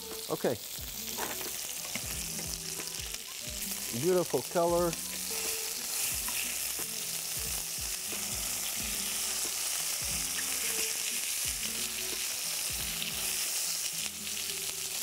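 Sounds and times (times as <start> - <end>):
chicken sizzling in a pan: 0.0 - 15.0
metal tongs turning meat: 1.0 - 7.4, 8.0 - 15.0.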